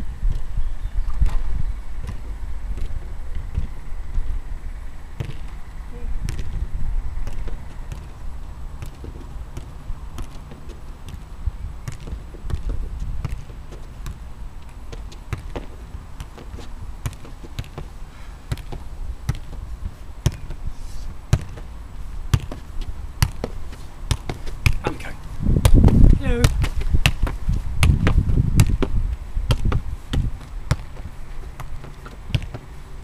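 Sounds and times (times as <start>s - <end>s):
football thudding: 0.3s - 3.8s, 5.2s - 5.6s, 6.2s - 14.2s, 14.9s - 20.6s, 21.3s - 32.7s.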